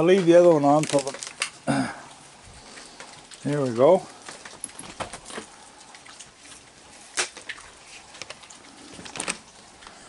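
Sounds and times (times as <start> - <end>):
steady rain falling: 0.0 - 10.0
water dripping: 0.0 - 10.0.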